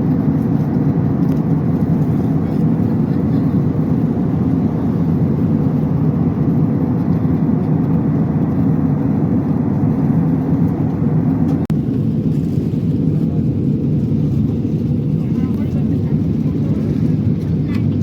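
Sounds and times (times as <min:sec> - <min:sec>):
airliner cabin roar: 0:00.0 - 0:18.0.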